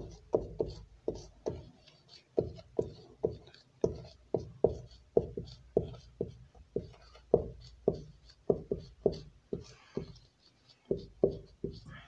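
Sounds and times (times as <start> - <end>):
felt tip scratching: 0.0 - 12.0
marker tapping on whiteboard: 0.0 - 12.0.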